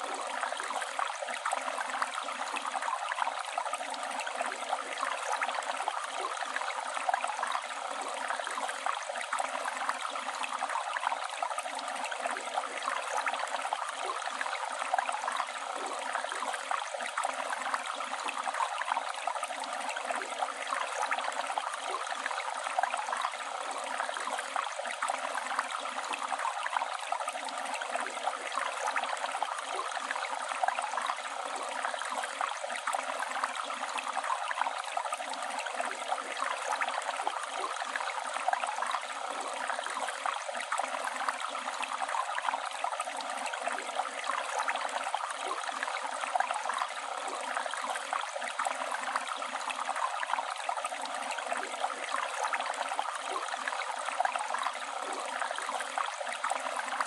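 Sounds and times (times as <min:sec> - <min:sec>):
stream rushing and babbling: 0:00.0 - 0:57.0.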